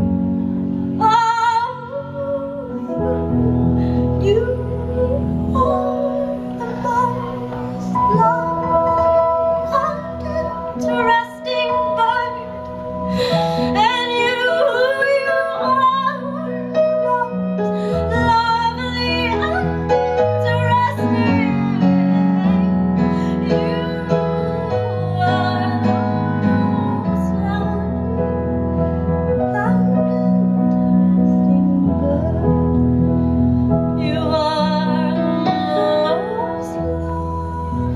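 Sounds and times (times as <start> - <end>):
keyboard chords: 0.0 - 37.9
woman singing with vibrato: 1.0 - 21.9, 22.5 - 28.2, 34.0 - 37.9.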